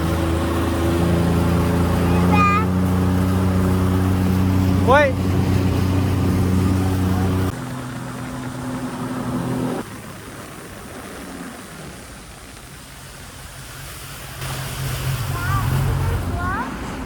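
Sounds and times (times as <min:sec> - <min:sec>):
jet ski engine idling: 0:00.0 - 0:17.0
water hiss: 0:00.0 - 0:17.0.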